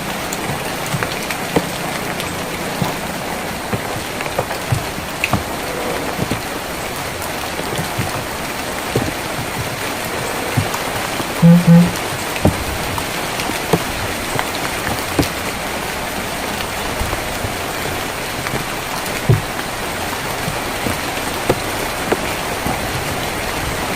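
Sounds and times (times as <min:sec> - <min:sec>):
rain on a tin roof: 0:00.0 - 0:23.9.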